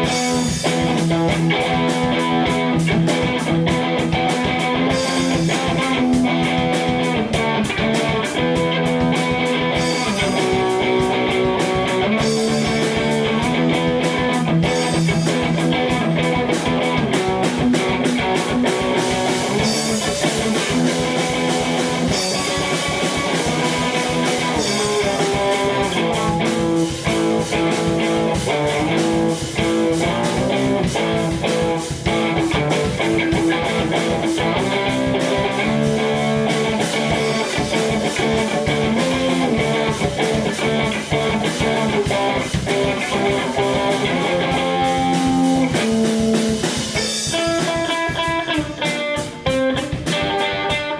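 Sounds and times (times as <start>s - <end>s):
drum beat: 0.0s - 50.9s
electric guitar: 0.0s - 50.9s.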